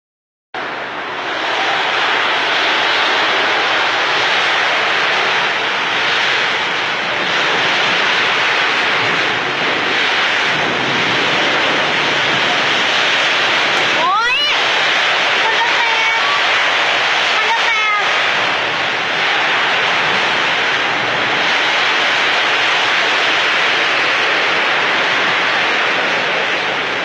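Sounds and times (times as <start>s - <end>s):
heavy rain pouring: 0.6s - 27.0s.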